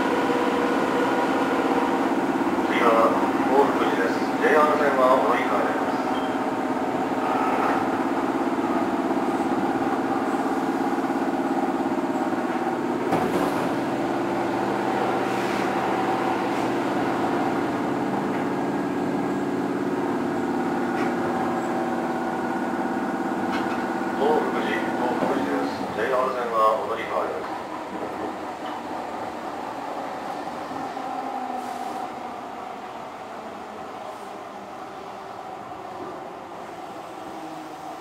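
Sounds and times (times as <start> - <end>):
electric train interior hum: 0.0 - 38.0.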